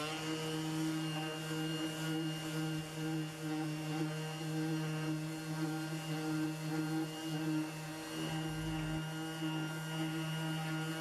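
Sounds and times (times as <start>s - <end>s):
orbital sander running: 0.0s - 11.0s.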